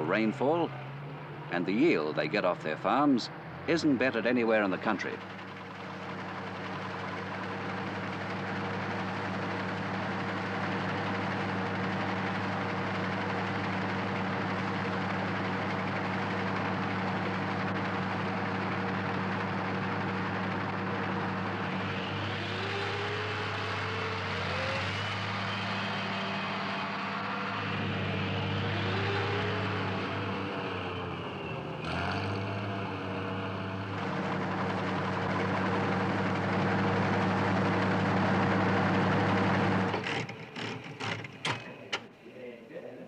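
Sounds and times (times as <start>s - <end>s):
engine humming: 0.0s - 42.1s.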